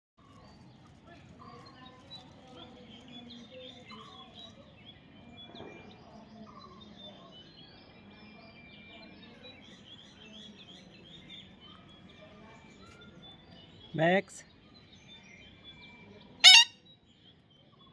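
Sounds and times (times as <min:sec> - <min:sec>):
faint bird chirping: 0:00.2 - 0:17.9.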